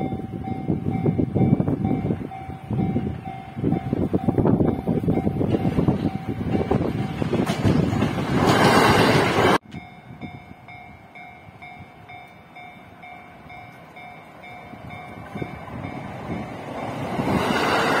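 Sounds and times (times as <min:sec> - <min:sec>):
electric train approaching: 0:00.0 - 0:18.0.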